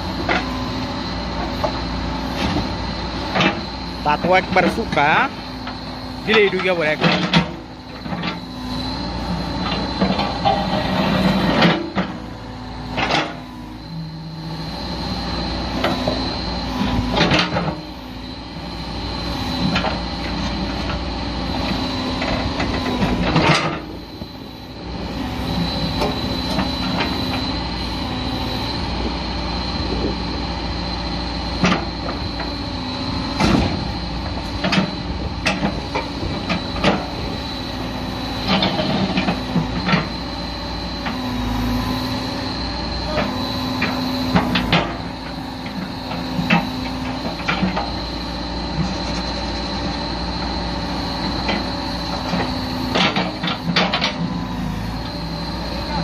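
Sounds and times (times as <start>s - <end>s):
diesel engine under load: 0.0s - 56.0s
high whine: 0.0s - 56.0s.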